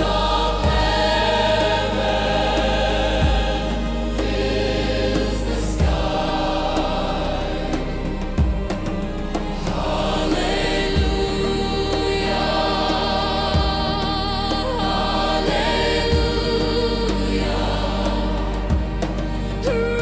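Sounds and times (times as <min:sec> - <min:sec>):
low sustained bass notes: 0:00.0 - 0:20.0
wordless choir singing: 0:00.0 - 0:20.0.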